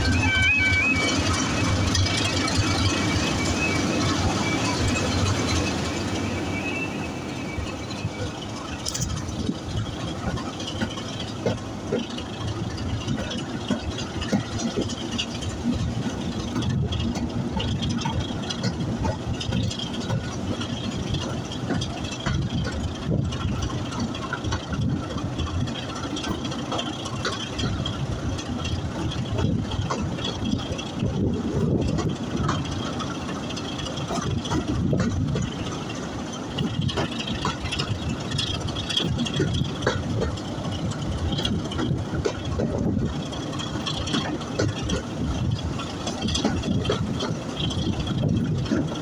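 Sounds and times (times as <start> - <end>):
train rumbling along track: 0.0 - 49.0
running gear clicks and rattles: 1.2 - 49.0.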